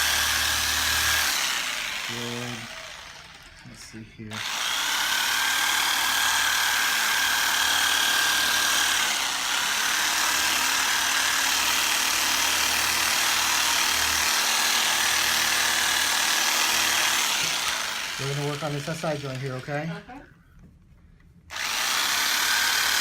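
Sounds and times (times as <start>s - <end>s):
drill whining: 0.0s - 20.1s, 21.5s - 23.0s.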